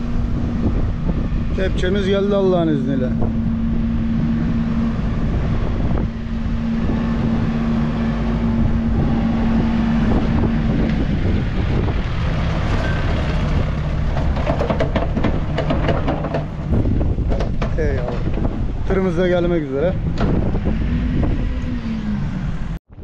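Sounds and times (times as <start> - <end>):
diesel engine running: 0.0 - 22.8
wind buffeting microphone: 0.0 - 23.0.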